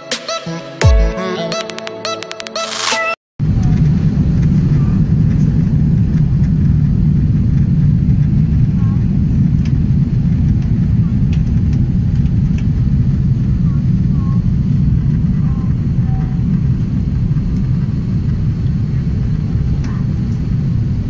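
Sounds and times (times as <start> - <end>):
jet engines and airflow rumble: 3.4 - 21.0.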